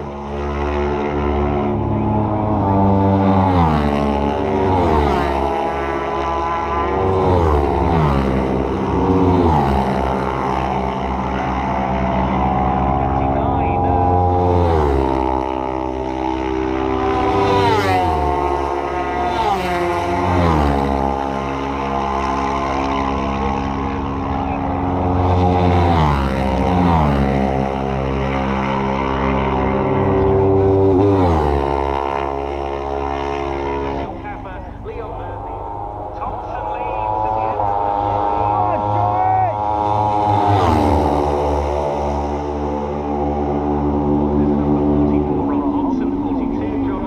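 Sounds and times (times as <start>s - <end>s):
racing motorcycle engines: 0.0s - 47.0s.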